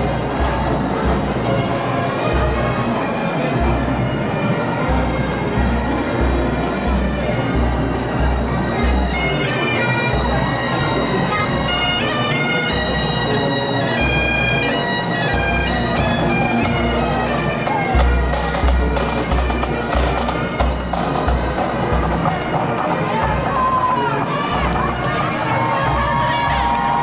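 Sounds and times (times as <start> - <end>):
bagpipes playing a tune: 0.0 - 26.6.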